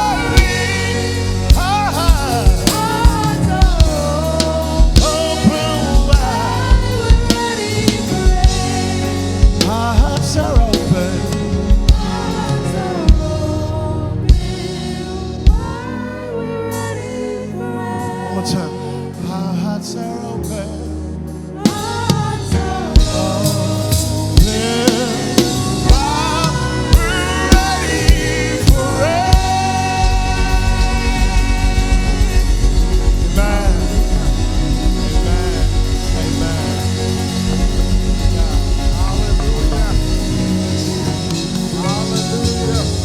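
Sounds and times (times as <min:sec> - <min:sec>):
sustained deep bass: 0:00.0 - 0:18.6, 0:19.2 - 0:43.0
vocal group singing with band: 0:00.0 - 0:43.0.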